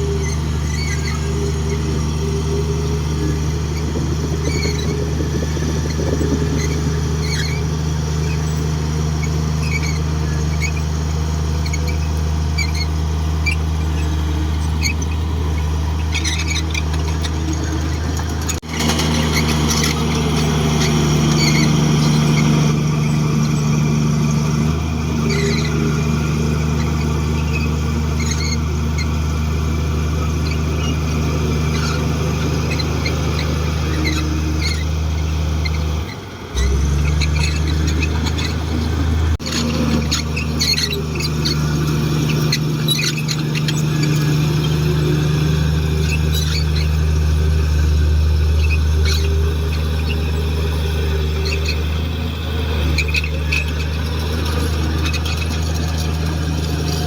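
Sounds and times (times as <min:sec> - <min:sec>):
bulldozer diesel engine running: 0:00.0 - 0:57.0
short squeaks: 0:00.0 - 0:57.0.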